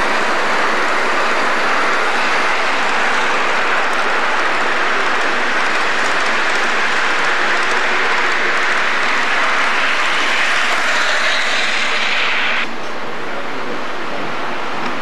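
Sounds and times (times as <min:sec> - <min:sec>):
model train wheels rattling on rails: 0:00.0 - 0:12.6.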